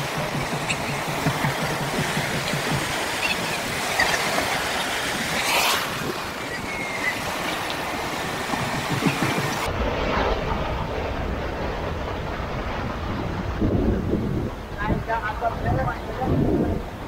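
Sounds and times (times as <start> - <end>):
waves breaking on sand: 0.0 - 14.1.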